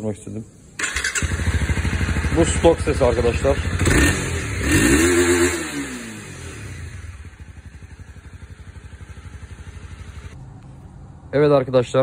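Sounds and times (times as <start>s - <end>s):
motorcycle engine revving and idling: 0.8s - 11.2s.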